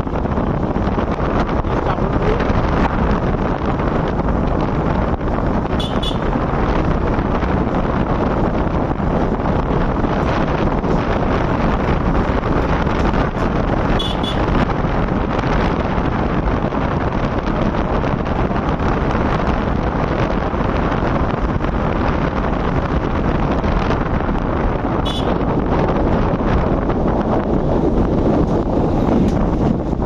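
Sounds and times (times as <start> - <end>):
motorbike engine and road noise: 0.0 - 30.0
wind buffeting microphone: 0.0 - 30.0.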